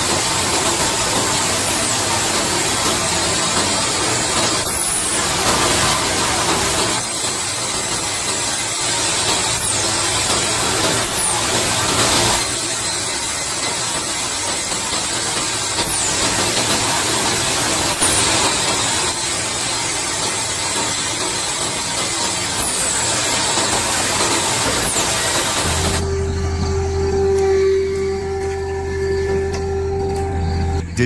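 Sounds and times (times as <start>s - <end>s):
band saw cutting log: 0.0s - 30.2s.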